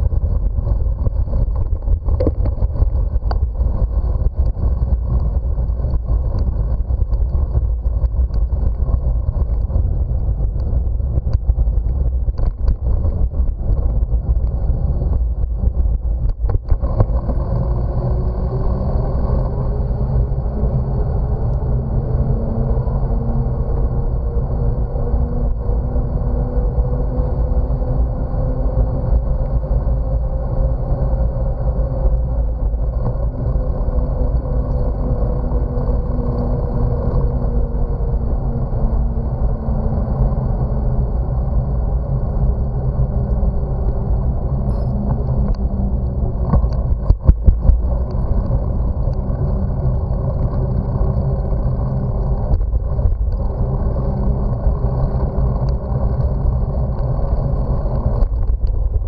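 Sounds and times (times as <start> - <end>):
bicycle tyre noise: 0.0 - 59.0
wind buffeting microphone: 0.0 - 59.0.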